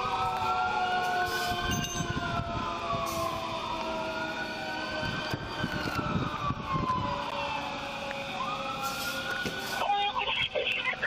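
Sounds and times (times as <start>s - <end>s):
emergency vehicle sirens wailing: 0.0s - 11.0s.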